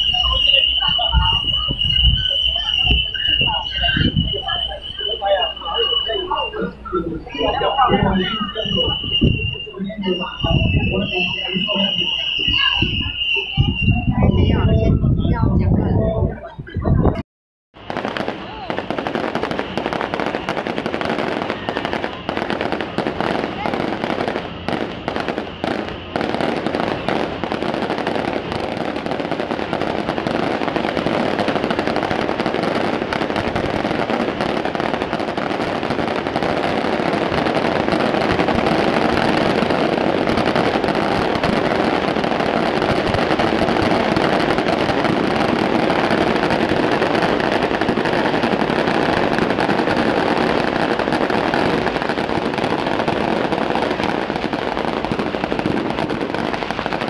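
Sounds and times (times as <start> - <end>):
fireworks crackling bangs: 0.0 - 16.8, 17.7 - 57.0.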